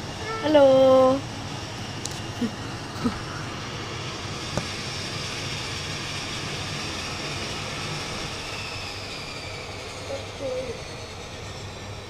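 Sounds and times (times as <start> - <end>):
turboprop engines with turbine whine: 0.0 - 12.0.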